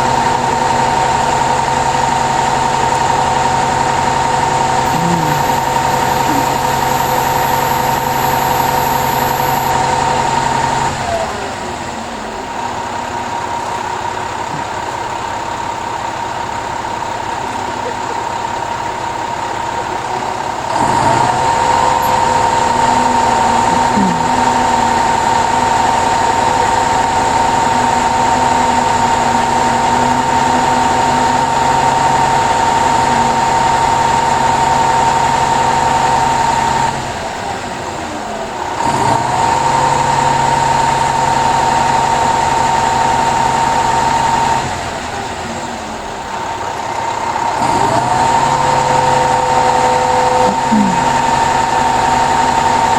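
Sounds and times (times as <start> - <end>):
truck engine whining and revving: 0.0 - 52.9.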